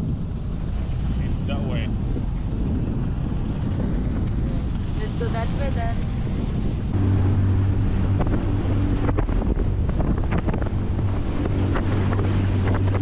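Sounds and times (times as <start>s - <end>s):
outboard motor humming: 0.0s - 13.0s
water splashing against hull: 0.0s - 13.0s
wind buffeting microphone: 0.0s - 13.0s.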